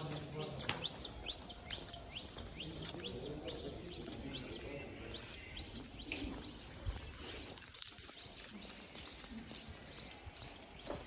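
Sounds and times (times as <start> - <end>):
faint distant voices: 0.0 - 11.0
small birds chirping: 0.0 - 11.0.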